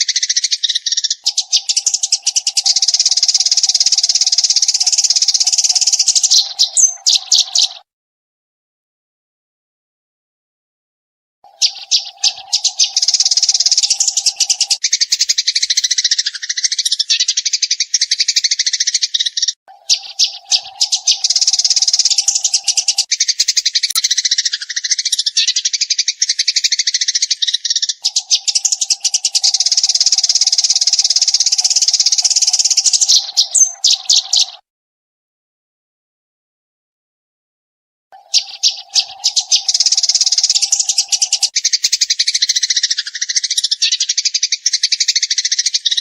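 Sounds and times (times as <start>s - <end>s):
sparrow chirping rapidly: 0.0s - 7.9s, 11.5s - 34.6s, 38.2s - 46.0s.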